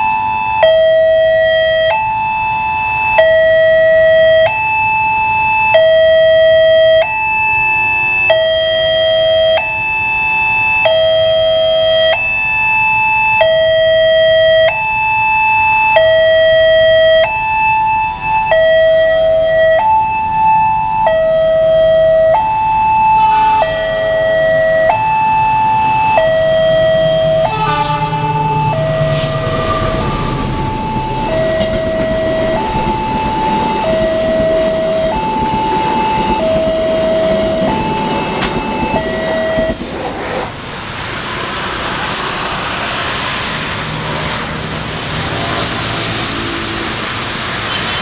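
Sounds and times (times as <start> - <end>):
two-tone level crossing alarm: 0.0 - 39.8.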